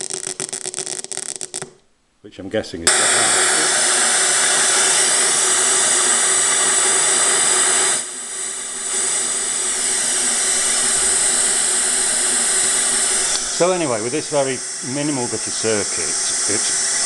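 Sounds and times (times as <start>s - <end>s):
loud white noise hiss: 2.9s - 17.0s.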